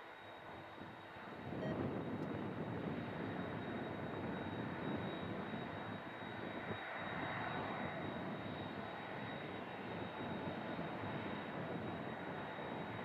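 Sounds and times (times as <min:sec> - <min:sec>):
high jet engine whine: 0:00.0 - 0:13.0
jet engines rumbling: 0:00.0 - 0:13.0.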